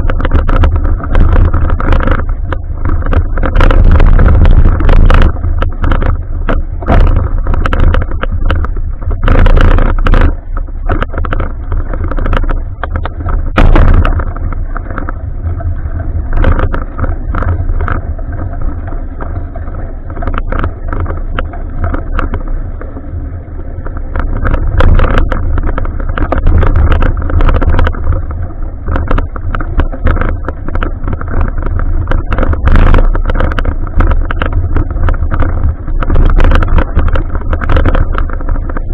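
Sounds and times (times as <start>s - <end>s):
bicycle knocks and rattles: 0.0s - 38.9s
wind and road rumble: 0.0s - 38.9s.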